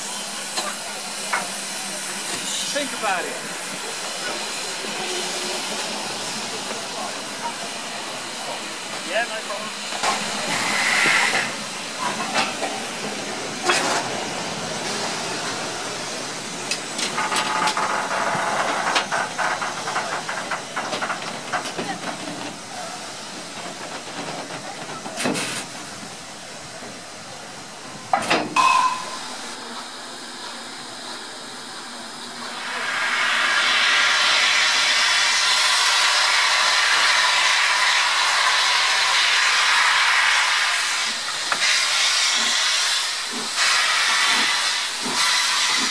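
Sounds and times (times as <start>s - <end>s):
steam blowing from drain cocks: 0.0s - 23.5s, 32.0s - 45.9s
steam locomotive hissing: 0.0s - 45.9s.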